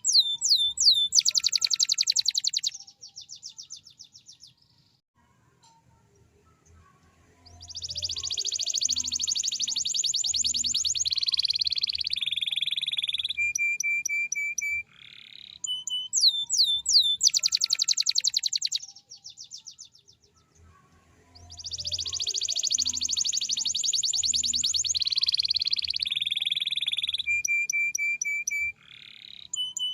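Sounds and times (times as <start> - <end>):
canary singing trills: 0.0 - 4.7, 6.2 - 29.9.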